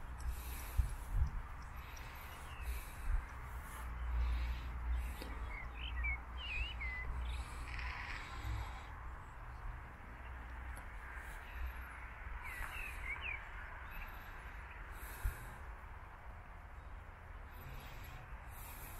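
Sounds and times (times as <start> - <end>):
birds chirping: 0.0 - 15.8, 16.6 - 18.9
wind rumbling on microphone: 0.0 - 18.9.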